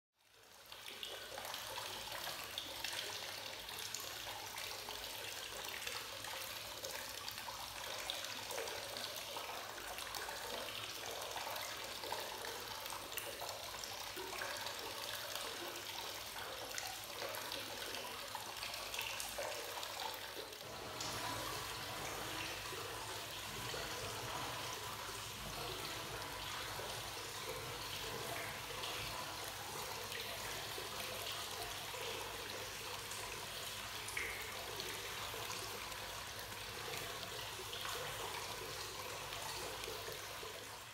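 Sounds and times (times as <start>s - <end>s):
water running from spout into bath: 0.3s - 40.9s.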